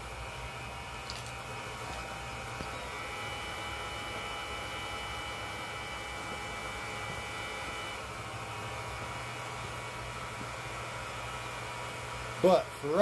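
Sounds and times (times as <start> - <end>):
faint high whine: 0.0 - 13.0
hairdryer blowing air: 0.0 - 13.0.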